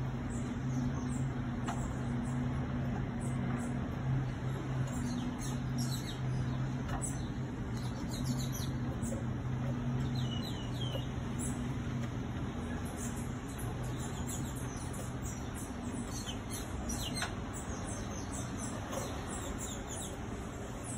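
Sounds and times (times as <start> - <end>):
birds chirping: 0.0 - 20.9
funicular car humming on track: 0.0 - 20.9.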